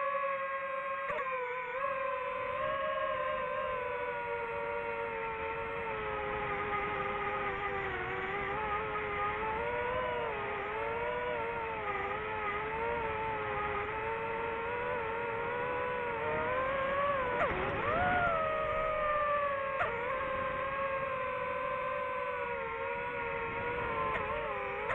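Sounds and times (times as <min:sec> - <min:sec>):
drone propellers whining: 0:00.0 - 0:24.9.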